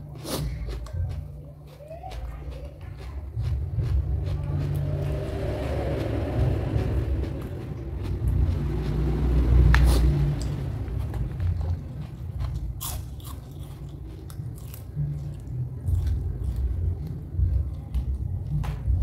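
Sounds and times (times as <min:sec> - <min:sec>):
person crunching raw vegetables: 0:00.0 - 0:18.9.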